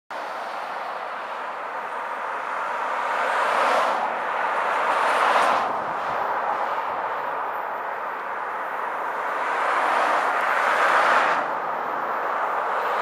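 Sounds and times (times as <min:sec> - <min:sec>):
cars passing: 0:00.1 - 0:13.0.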